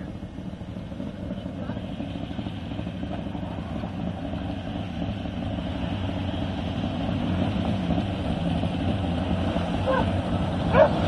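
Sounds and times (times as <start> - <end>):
race car engine running steadily: 0.0 - 11.0.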